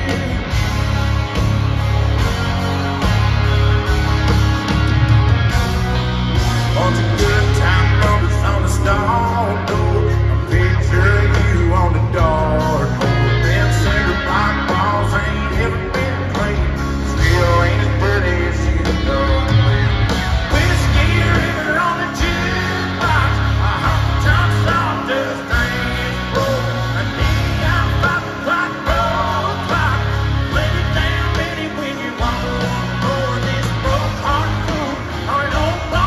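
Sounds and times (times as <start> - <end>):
man singing: 0.0 - 1.0, 6.7 - 36.0
live country band: 0.0 - 36.0.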